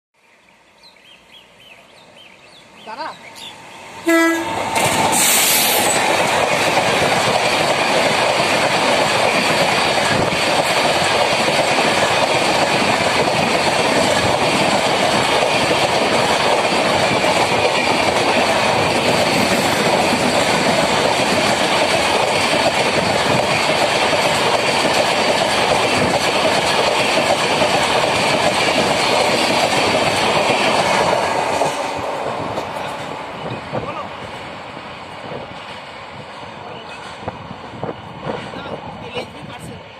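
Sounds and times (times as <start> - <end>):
steel wheels rolling on rail: 1.0 - 39.9.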